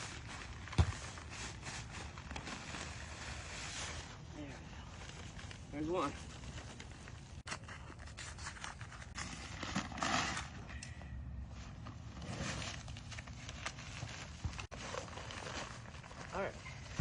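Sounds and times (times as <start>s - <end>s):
paper bags scraping and rustling: 0.0s - 10.7s, 11.5s - 17.0s.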